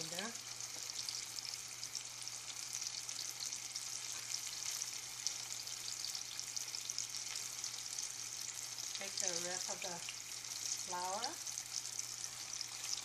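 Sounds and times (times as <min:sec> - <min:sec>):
chicken wings deep-frying in oil: 0:00.0 - 0:13.0.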